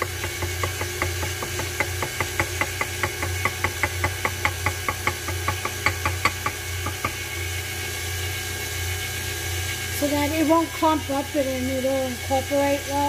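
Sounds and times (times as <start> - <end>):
stand mixer motor hum: 0.0 - 13.0.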